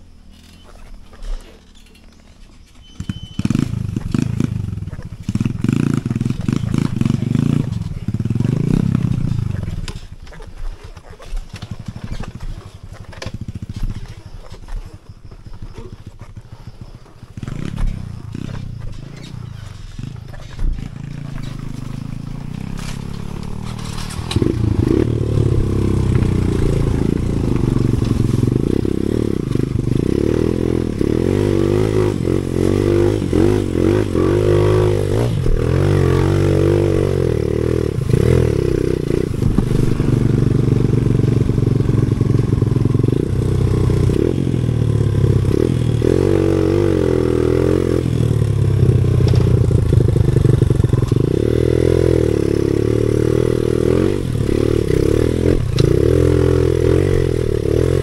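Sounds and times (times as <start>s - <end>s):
dirt bike engine revving: 2.8s - 58.0s.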